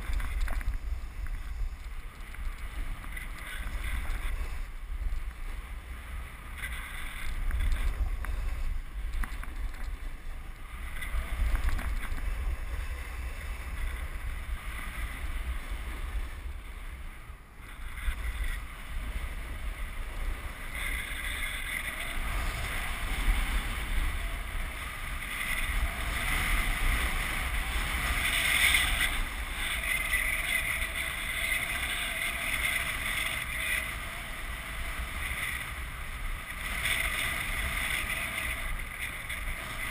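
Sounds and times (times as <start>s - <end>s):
snowboard scraping over snow: 0.0s - 39.9s
wind buffeting microphone: 0.0s - 39.9s.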